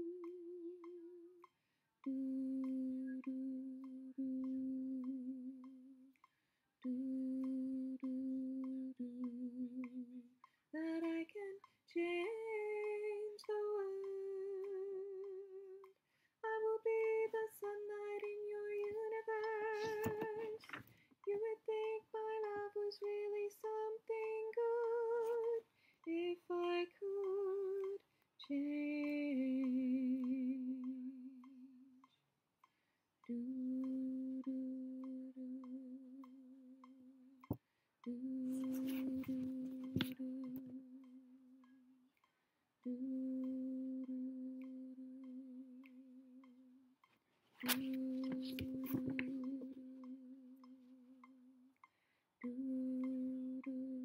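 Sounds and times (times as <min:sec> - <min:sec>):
woman singing with vibrato: 0:00.0 - 0:01.4, 0:02.1 - 0:06.1, 0:06.8 - 0:32.0, 0:33.3 - 0:37.4, 0:38.1 - 0:41.7, 0:42.8 - 0:46.6, 0:47.6 - 0:51.5, 0:52.4 - 0:54.0
metronome clicking: 0:00.0 - 0:54.0.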